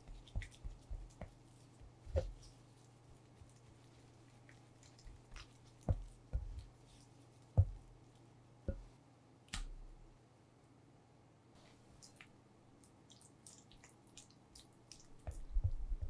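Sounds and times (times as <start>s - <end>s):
spatula squishing cream cheese: 0.0s - 8.9s, 12.0s - 16.0s.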